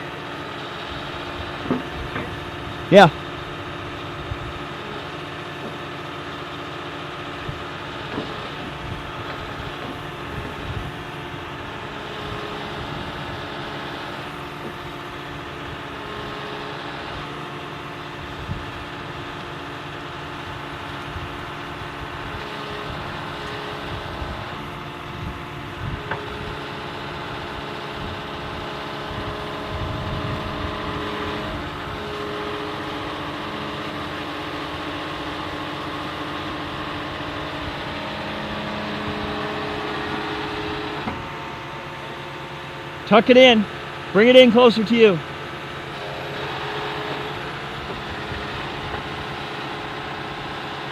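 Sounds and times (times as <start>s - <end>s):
excavator diesel engine running: 0.0s - 50.9s
hydraulic whine: 0.0s - 50.9s.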